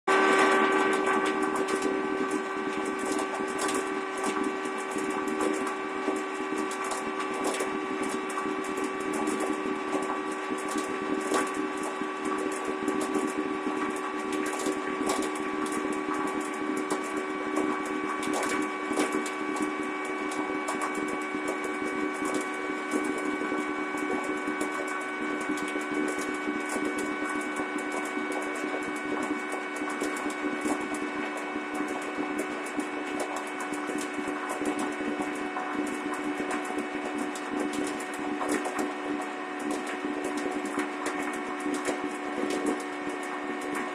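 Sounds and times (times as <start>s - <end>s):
motor hum-whine: 0.1s - 43.9s.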